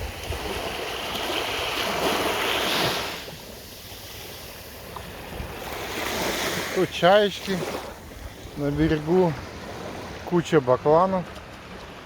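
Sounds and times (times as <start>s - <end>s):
small waves washing on sand: 0.0s - 12.0s.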